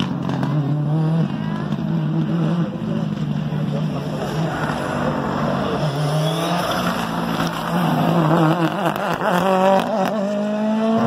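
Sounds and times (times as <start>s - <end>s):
rally car engine at high revs: 0.0s - 11.0s.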